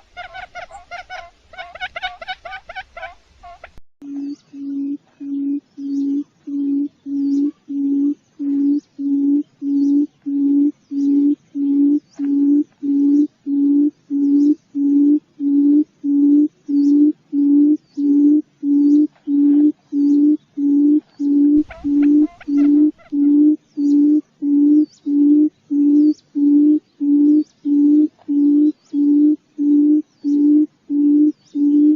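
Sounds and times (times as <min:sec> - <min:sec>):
low hooting quail call: 0:00.0 - 0:31.9
small birds chirping: 0:00.0 - 0:31.9.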